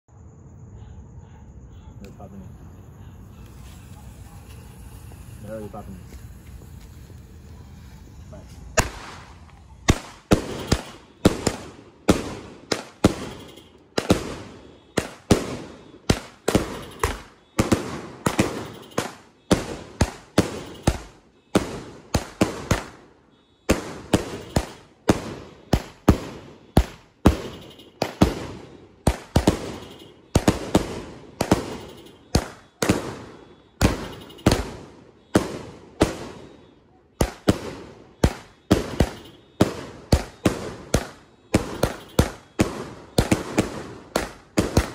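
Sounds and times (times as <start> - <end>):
firework cake shots: 3.0 - 44.9.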